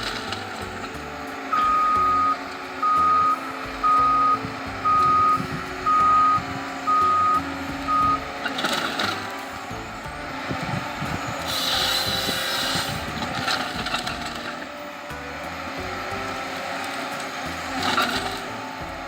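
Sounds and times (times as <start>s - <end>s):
diesel engine running: 0.0s - 19.0s
reversing alarm beeps: 0.0s - 19.0s.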